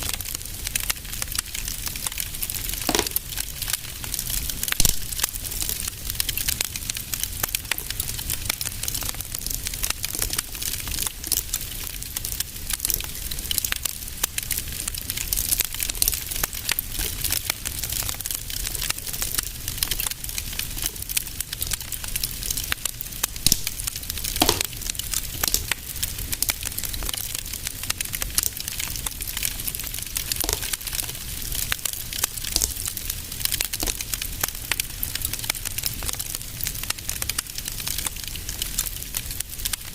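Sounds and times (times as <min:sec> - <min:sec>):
fire crackling: 0:00.0 - 0:39.9
low fire rumble: 0:00.0 - 0:39.9.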